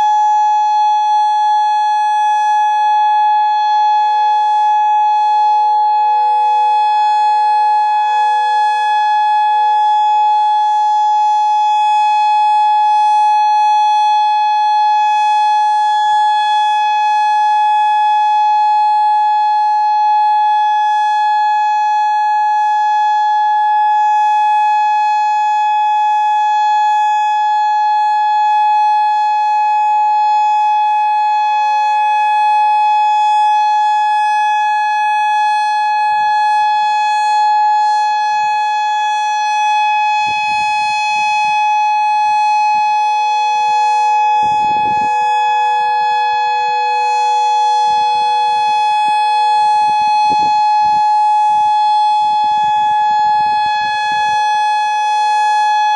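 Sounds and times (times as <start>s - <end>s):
warning siren steady tone: 0.0s - 55.9s.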